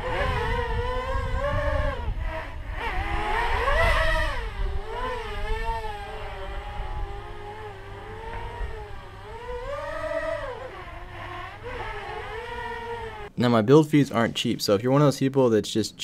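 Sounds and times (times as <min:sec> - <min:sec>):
quadcopter motors whining: 0:00.0 - 0:13.3.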